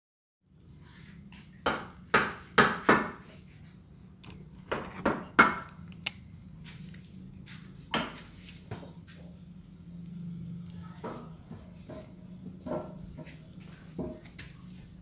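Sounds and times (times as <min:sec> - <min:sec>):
faint steady hum: 0:00.5 - 0:15.0.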